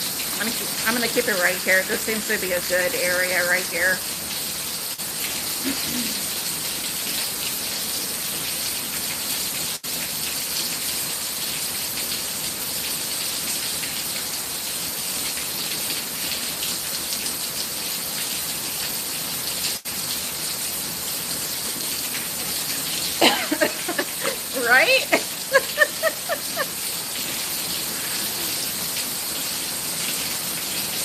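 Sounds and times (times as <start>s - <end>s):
torrential rain: 0.0s - 31.0s.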